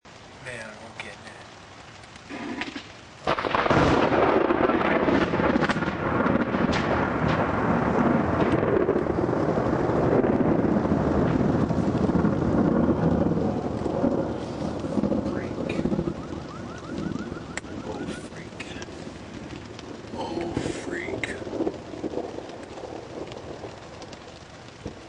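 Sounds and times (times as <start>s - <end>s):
rolling thunder: 2.2s - 25.0s
loud thunderclap: 2.3s - 25.0s.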